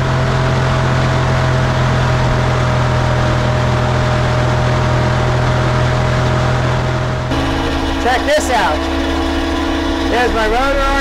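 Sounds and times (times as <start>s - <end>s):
loader engine running: 0.0s - 11.0s
mulcher drum whirring: 0.1s - 11.0s.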